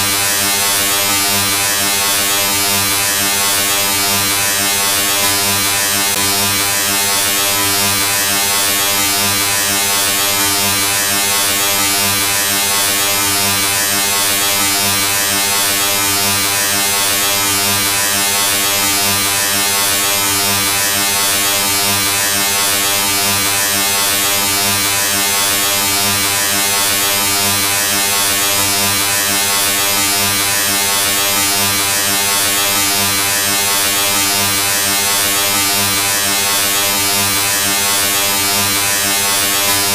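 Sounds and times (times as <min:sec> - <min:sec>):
electric buzz: 0:00.0 - 0:39.9.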